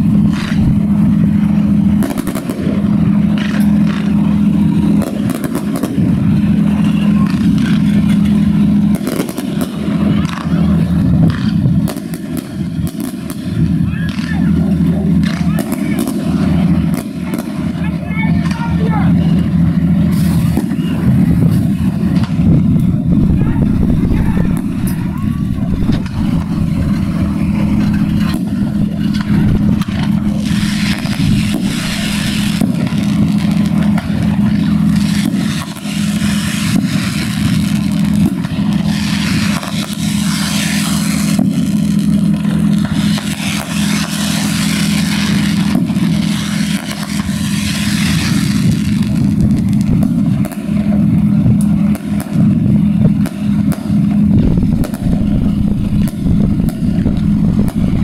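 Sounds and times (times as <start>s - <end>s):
fireworks crackles and pops: 0.0s - 58.0s
fireworks hissing bursts: 0.0s - 58.0s
steady low drone: 0.0s - 58.0s.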